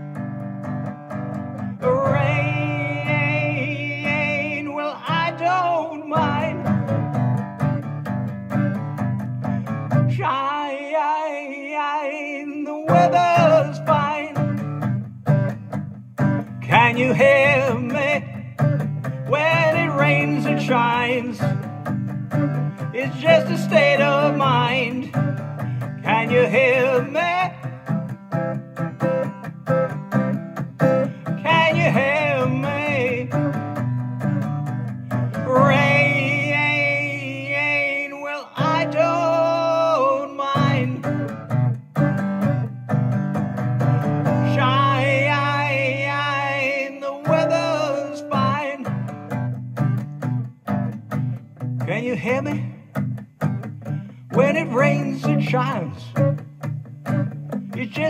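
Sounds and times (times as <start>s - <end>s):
acoustic guitar strumming: 0.0s - 58.0s
wavering guitar lead melody: 0.0s - 58.0s.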